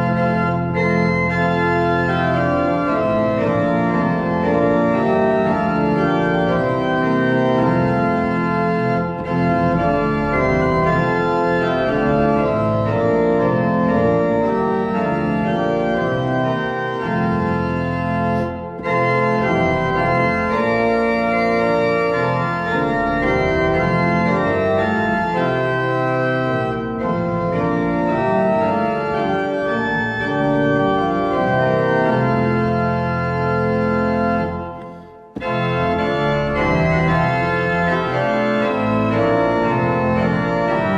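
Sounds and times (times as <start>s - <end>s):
organ chords: 0.0s - 40.9s.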